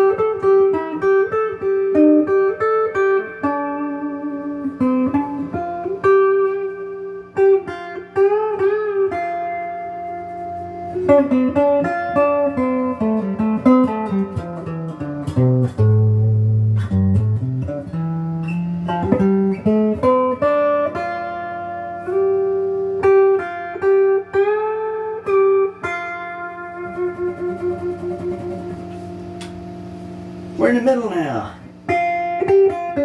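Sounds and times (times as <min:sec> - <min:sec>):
clean electric guitar: 0:00.0 - 0:33.0.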